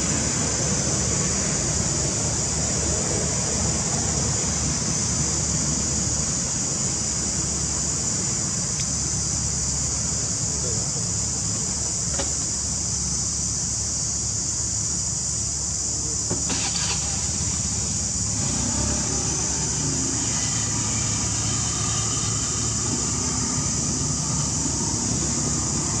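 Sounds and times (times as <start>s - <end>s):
high even hiss: 0.0s - 26.0s.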